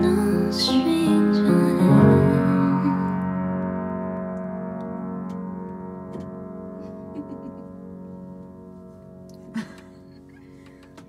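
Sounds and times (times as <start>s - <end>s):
piano chord ringing: 0.0s - 11.0s.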